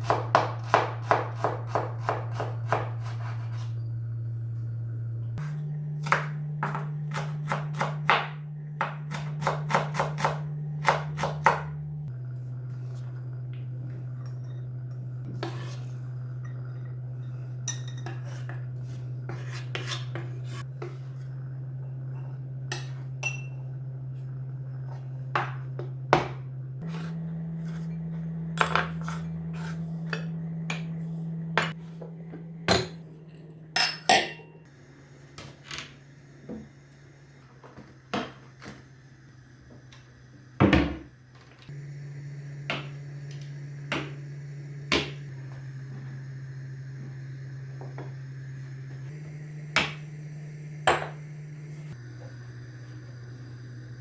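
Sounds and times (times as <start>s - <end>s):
low hum: 1.8s - 9.4s, 10.3s - 54.0s.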